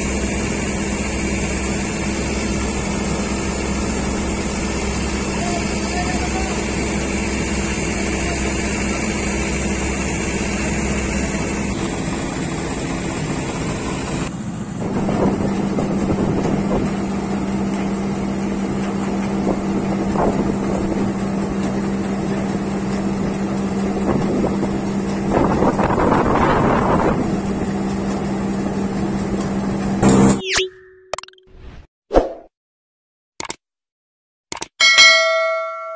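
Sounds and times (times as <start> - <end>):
combine harvester engine drone: 0.0 - 30.4.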